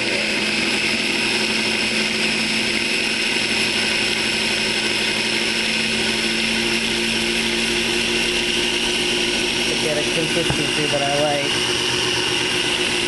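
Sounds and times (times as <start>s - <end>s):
blender motor whining hum: 0.0s - 13.0s.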